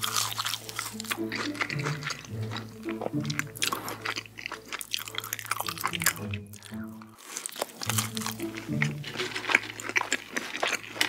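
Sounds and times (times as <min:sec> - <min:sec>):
crisp crunching and chewing: 0:00.0 - 0:11.0.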